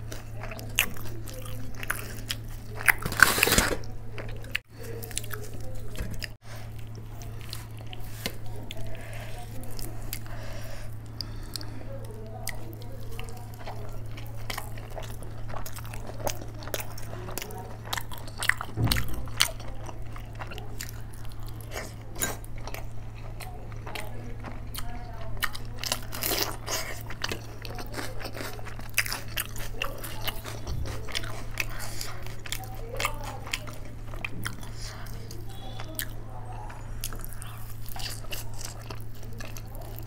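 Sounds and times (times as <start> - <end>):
steady low hum: 0.0 - 40.0
woman chewing food: 0.0 - 40.0.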